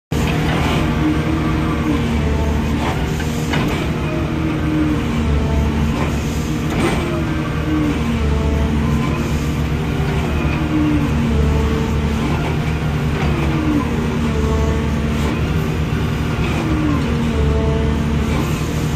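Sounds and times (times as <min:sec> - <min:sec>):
drilling machine engine running: 0:00.1 - 0:18.9.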